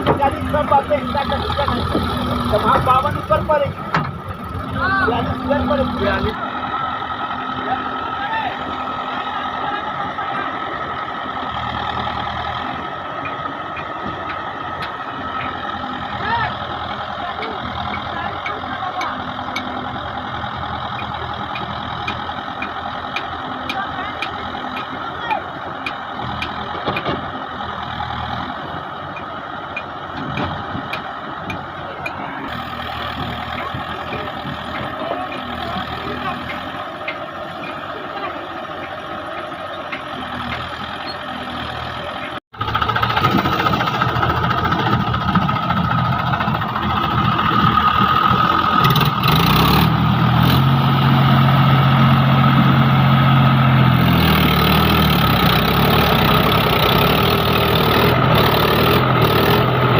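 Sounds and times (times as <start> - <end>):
diesel engine digging: 0.0 - 59.9.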